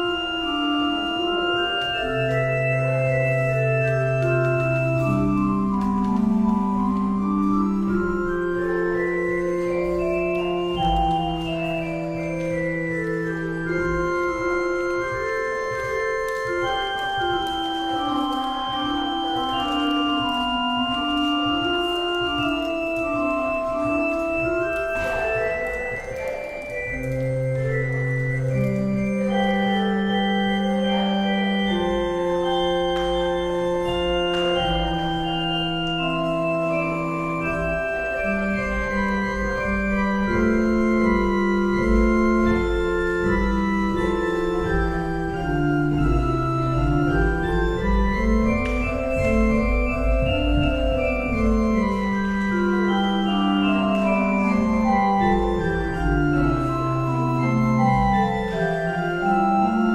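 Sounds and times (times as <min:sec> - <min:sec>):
pipe organ contrapuntal music: 0:00.0 - 0:59.9.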